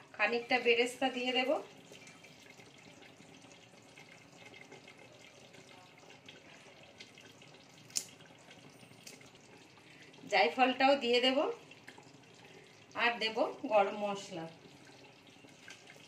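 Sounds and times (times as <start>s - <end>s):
pot simmering hiss: 0.0s - 16.0s.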